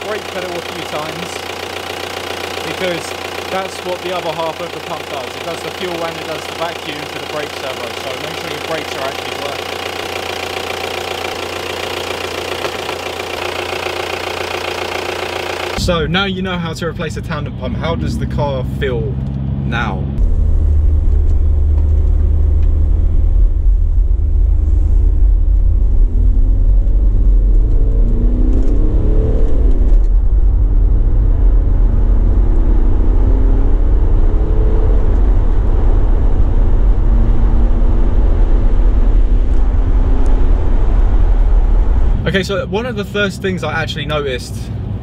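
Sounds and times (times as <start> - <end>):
car engine and road rumble: 0.0 - 45.0.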